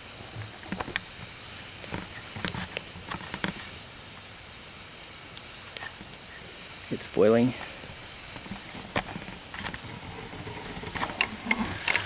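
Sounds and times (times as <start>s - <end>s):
campfire crackling and popping: 0.0s - 12.0s
water boiling: 0.0s - 12.0s.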